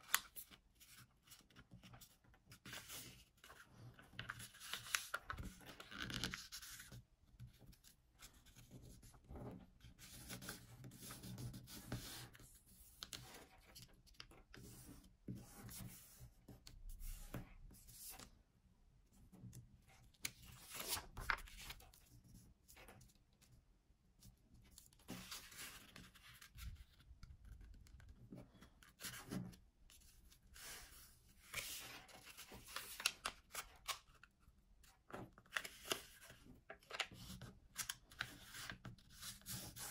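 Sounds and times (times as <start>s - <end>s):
paper being folded and creased: 0.0s - 15.0s, 19.9s - 23.4s, 24.2s - 39.9s.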